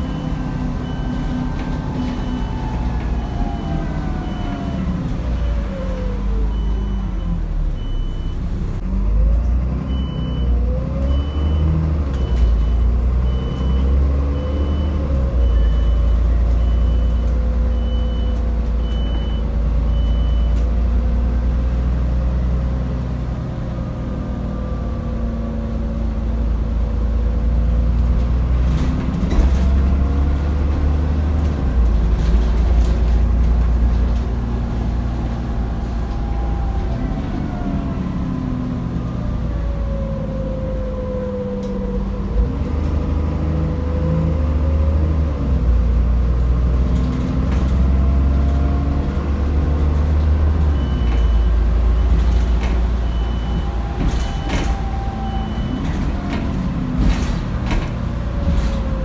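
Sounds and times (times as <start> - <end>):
bus engine rumble and whine: 0.0 - 59.0.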